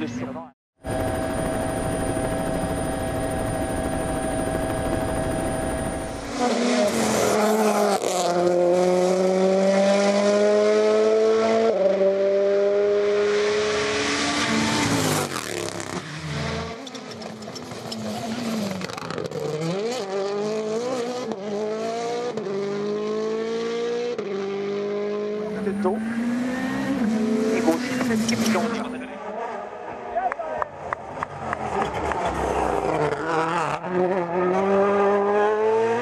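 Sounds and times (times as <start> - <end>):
rally car engine at full throttle: 0.1 - 36.0.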